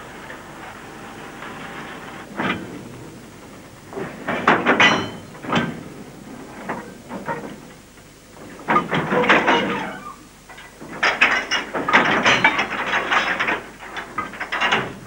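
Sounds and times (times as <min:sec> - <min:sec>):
freight wagons clanking and rattling: 0:00.0 - 0:15.0.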